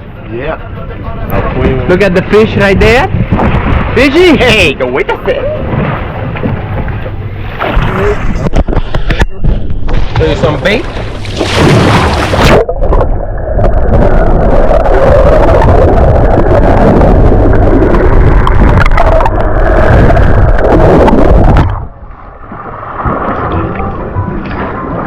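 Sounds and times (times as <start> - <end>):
water churning and gurgling: 0.0 - 25.0.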